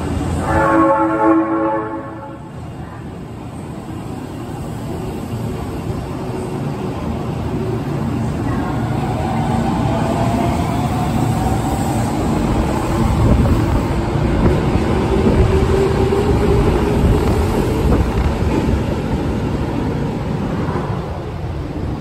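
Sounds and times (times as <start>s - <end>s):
subway train passing: 0.0s - 22.0s.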